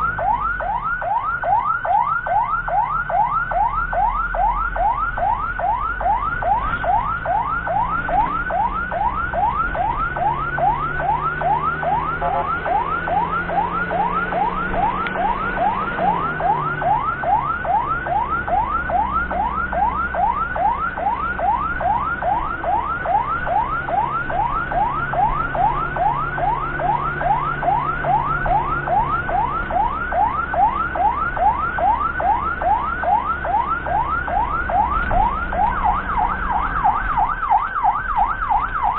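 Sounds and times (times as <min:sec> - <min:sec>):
ambulance siren yelping: 0:00.0 - 0:38.9.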